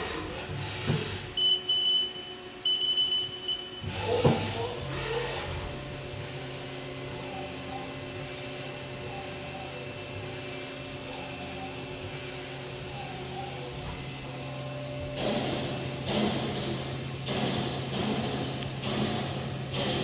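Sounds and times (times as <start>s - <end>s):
machining center humming: 0.0s - 20.0s.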